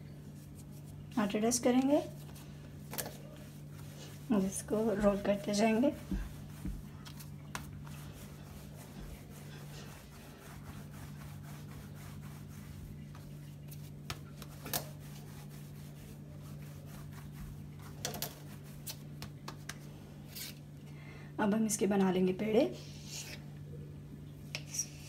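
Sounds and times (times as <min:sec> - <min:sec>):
palms rolling dough: 0:00.0 - 0:20.6
steady low hum: 0:00.0 - 0:25.0.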